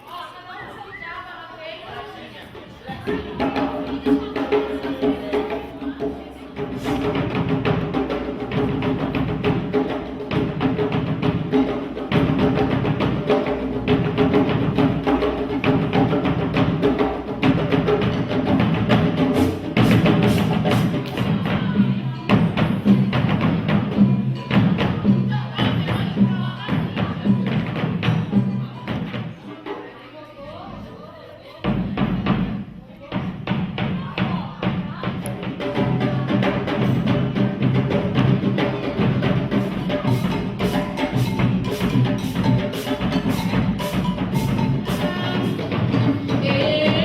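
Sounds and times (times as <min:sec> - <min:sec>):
percussion group drumming: 0:00.0 - 0:30.9, 0:31.5 - 0:47.0
low drum beats: 0:02.6 - 0:29.5, 0:31.6 - 0:47.0
sharp fast drum strikes: 0:06.5 - 0:29.4, 0:31.6 - 0:47.0.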